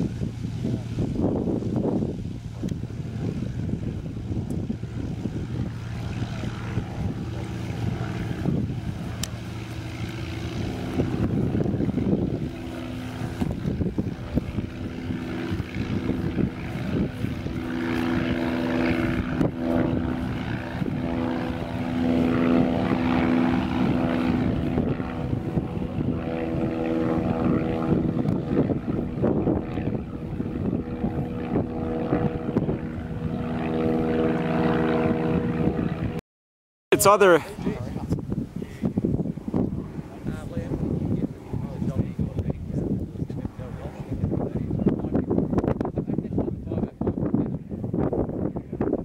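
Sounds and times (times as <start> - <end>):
propeller plane engine droning: 0.0 - 36.2, 36.9 - 49.0.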